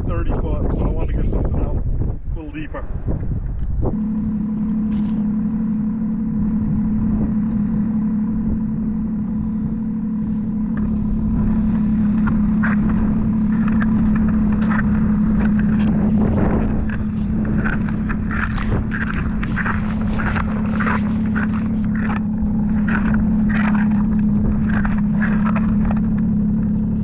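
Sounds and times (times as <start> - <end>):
small engine humming: 3.0 - 27.0.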